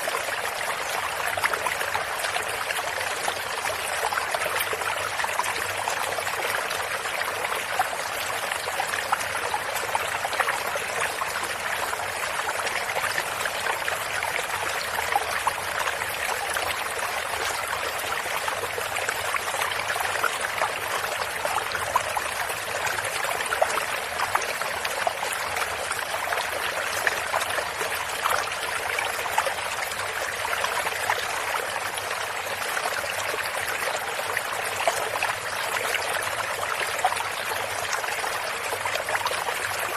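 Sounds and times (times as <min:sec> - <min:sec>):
stream of water trickling: 0:00.0 - 0:39.9.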